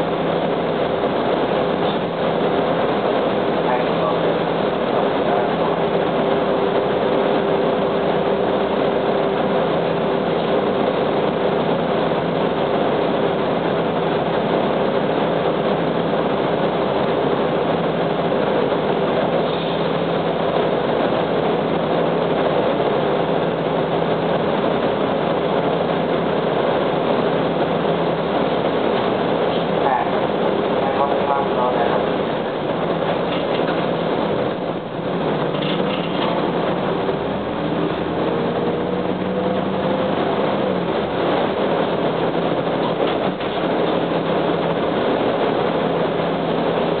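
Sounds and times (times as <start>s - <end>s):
bus diesel engine idling: 0.0s - 47.0s.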